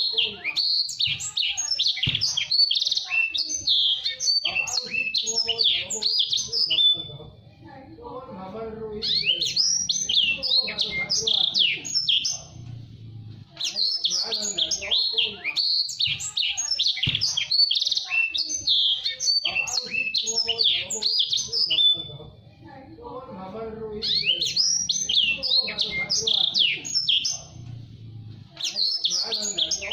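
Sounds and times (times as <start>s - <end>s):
songbird chirps and trills: 0.0s - 7.3s, 8.9s - 22.3s, 23.9s - 29.9s.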